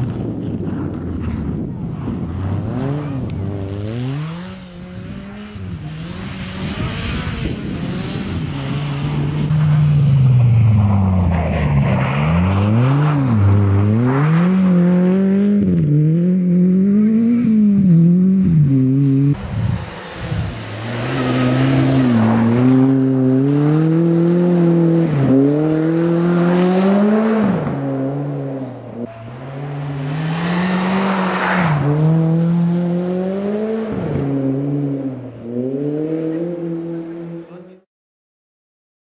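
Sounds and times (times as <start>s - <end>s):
rally car engine revving: 0.1s - 37.9s.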